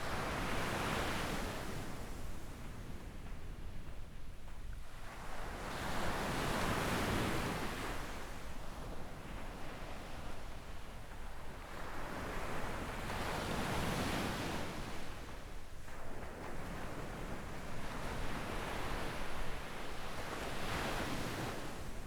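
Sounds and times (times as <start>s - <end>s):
small waves breaking on shore: 0.0s - 22.0s.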